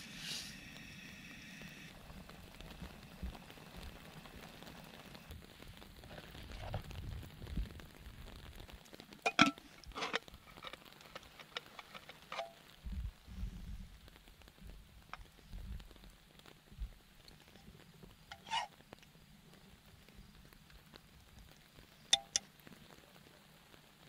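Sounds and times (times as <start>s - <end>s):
rice boiling bubbling hiss: 0.0s - 24.0s.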